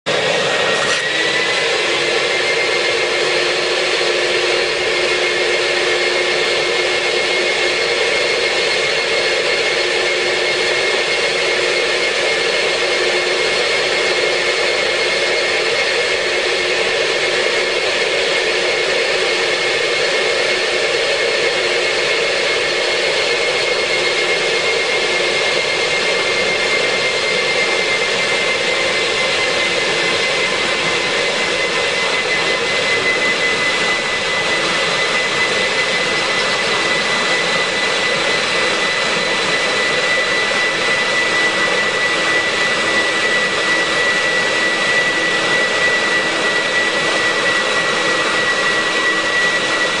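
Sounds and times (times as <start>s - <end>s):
wet vacuum cleaner sucking water: 0.0s - 50.0s.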